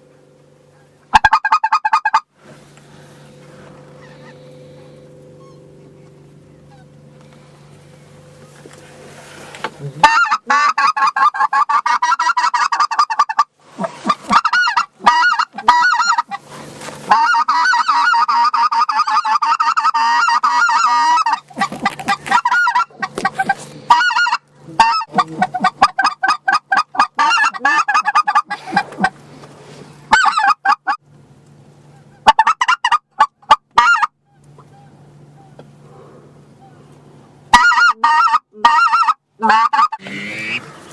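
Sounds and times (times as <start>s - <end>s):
waterfowl call honking: 0.6s - 2.3s, 2.9s - 7.5s, 9.2s - 29.2s, 30.0s - 31.0s, 31.8s - 40.9s.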